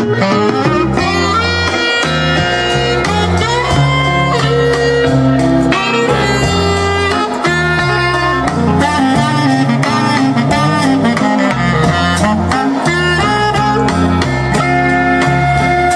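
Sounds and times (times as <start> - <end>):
bass line: 0.0 - 15.9
guitar: 0.0 - 15.9.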